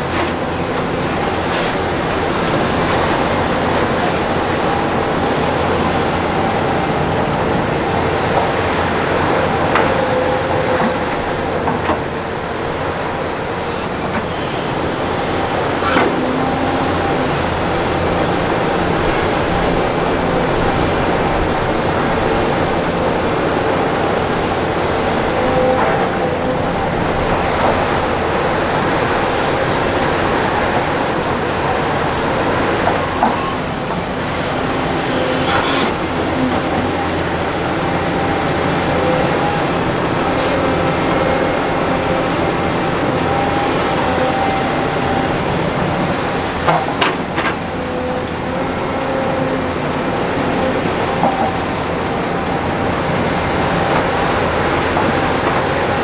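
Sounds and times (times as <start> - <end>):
diesel engine rumble: 0.0 - 56.0.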